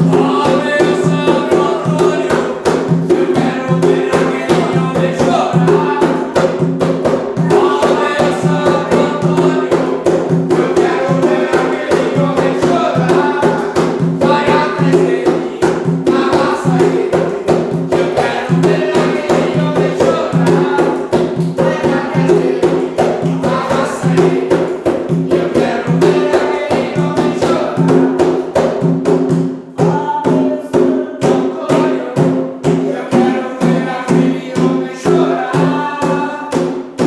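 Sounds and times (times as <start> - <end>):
hand drums beating: 0.0 - 37.0
people singing: 0.0 - 37.0.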